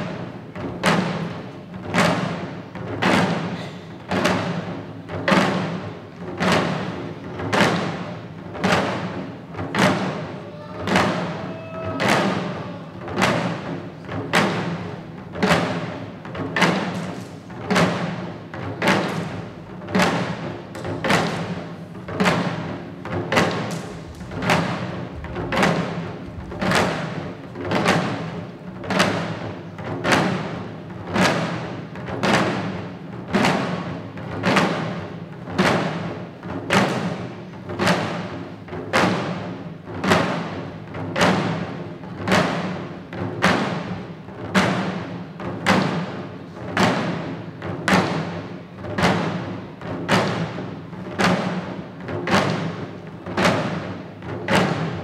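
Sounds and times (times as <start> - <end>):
small taiko drums beating: 0.0 - 55.0.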